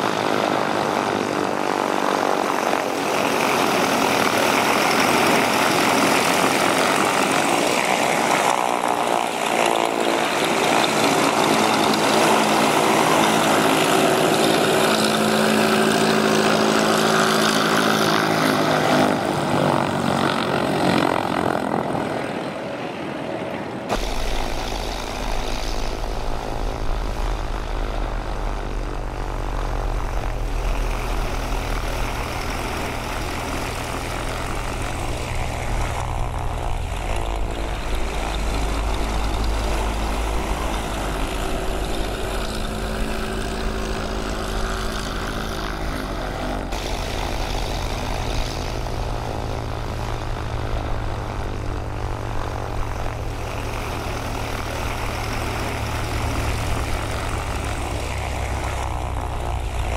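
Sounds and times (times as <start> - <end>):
propeller engine drone: 0.0 - 59.9.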